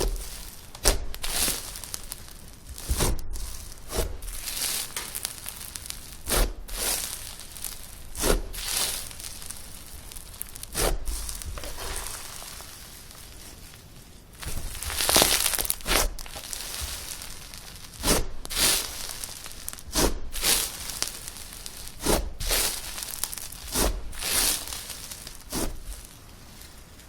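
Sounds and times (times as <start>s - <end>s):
slime squishing: 0.0s - 27.0s.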